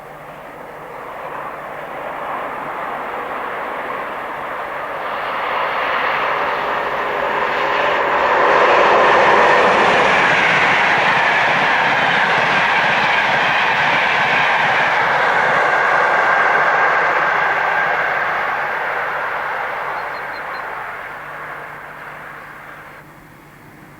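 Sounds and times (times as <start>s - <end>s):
wheels clacking over rail joints: 0.0s - 23.1s
train passing at speed: 0.0s - 23.9s.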